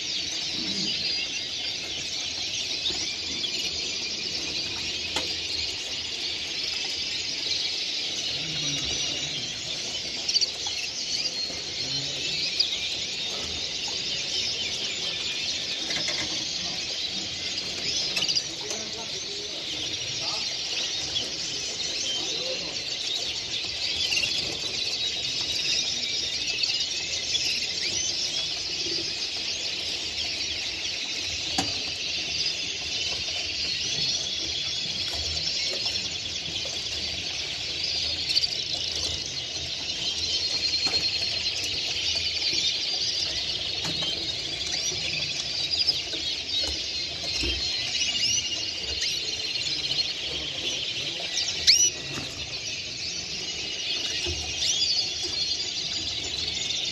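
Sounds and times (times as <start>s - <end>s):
songbirds chorus chirping and trilling: 0.0s - 56.9s.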